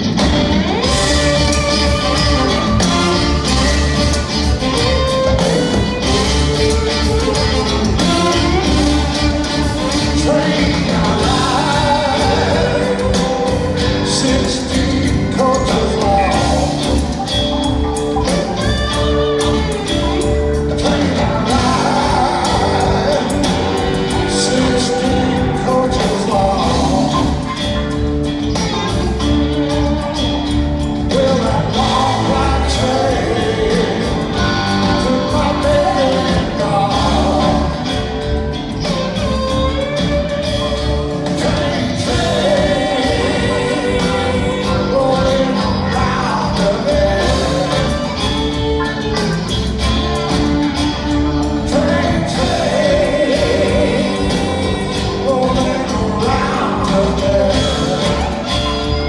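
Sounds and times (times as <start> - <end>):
live rock band playing: 0.0 - 59.0
person singing: 0.5 - 28.1, 31.0 - 59.0.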